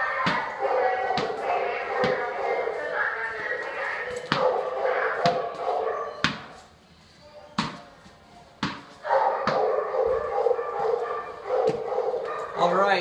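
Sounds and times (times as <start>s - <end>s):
dogs barking in hallway: 0.0s - 6.8s, 8.4s - 13.0s.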